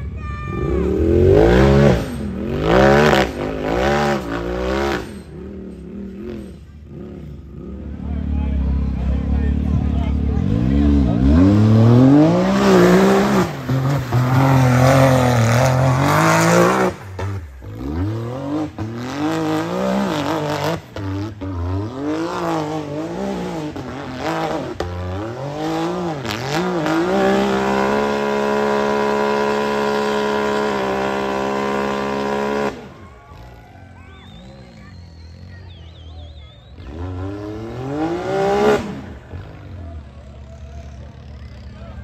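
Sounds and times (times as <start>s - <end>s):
race engine revving: 0.0s - 42.0s.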